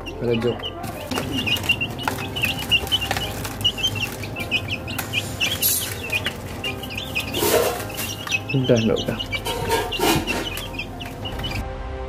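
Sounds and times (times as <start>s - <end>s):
chicks peeping: 0.0s - 11.6s
rustling: 0.6s - 11.6s.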